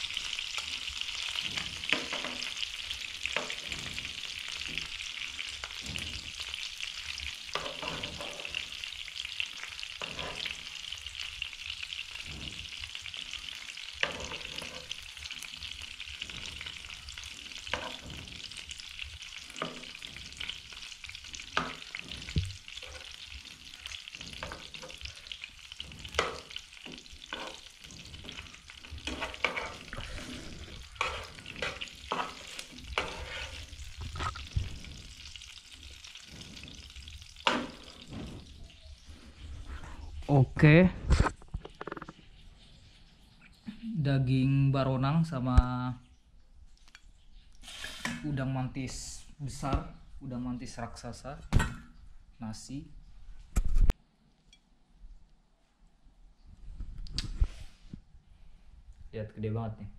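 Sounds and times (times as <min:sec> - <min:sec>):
food sizzling in hot oil: 0:00.0 - 0:43.1, 0:47.3 - 0:52.8.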